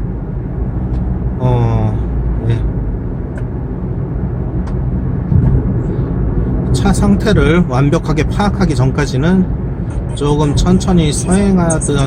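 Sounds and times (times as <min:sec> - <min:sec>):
in-cabin road and engine rumble: 0:00.0 - 0:12.0.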